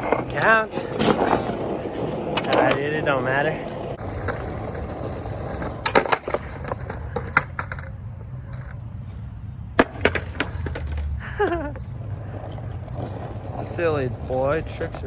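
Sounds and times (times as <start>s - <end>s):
skateboard clacking: 0.0s - 8.8s, 9.8s - 15.0s
skateboard wheels rumbling: 0.0s - 15.0s.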